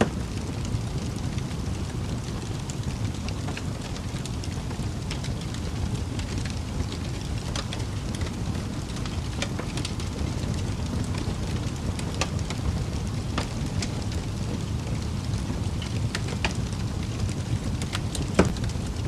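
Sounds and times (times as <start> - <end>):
burning logs popping and crackling: 0.0 - 19.0
wood fire rumbling: 0.0 - 19.0.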